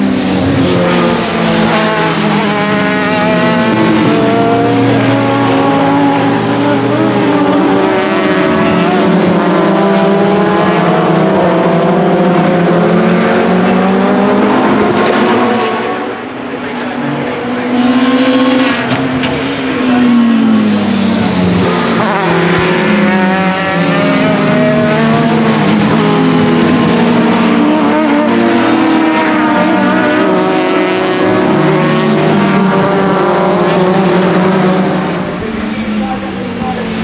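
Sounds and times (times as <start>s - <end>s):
racing car engines revving: 0.0s - 37.0s.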